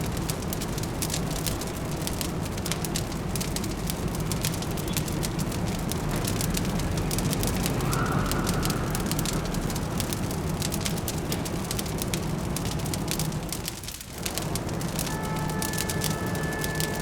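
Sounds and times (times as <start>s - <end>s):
low city rumble: 0.0s - 17.0s
wood fire crackling: 0.0s - 17.0s.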